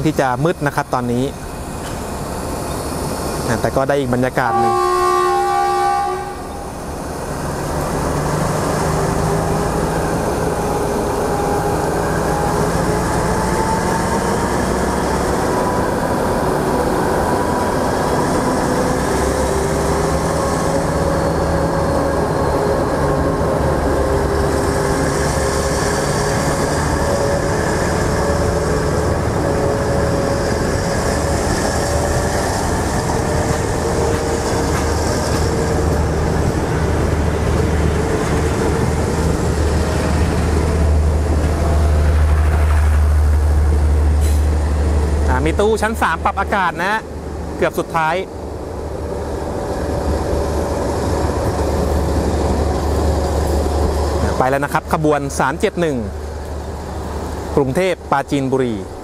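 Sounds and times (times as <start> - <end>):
train carriages rumbling past: 0.0 - 59.0.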